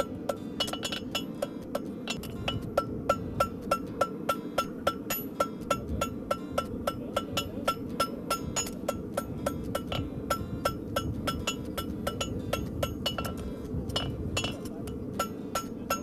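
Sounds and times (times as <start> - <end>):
hammer striking horseshoe on anvil: 0.0 - 16.0
steady low rush: 0.0 - 16.0.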